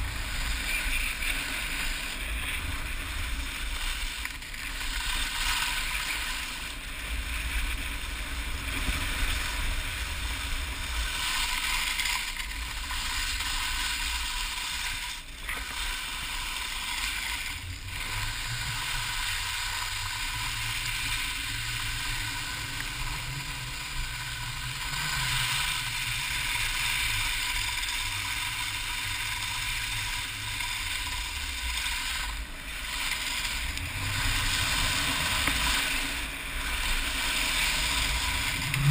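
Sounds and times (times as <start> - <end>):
skis scraping on hard snow: 0.0 - 38.9
wind rumble on camera: 0.0 - 38.9.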